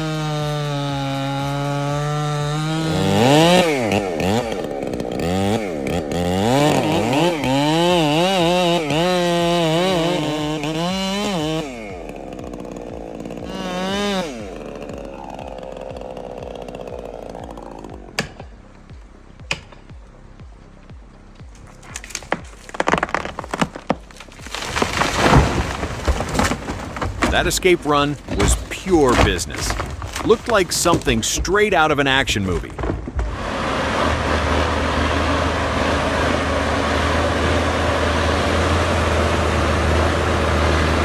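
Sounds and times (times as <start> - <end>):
chainsaw revving: 0.0 - 20.0, 21.4 - 41.0.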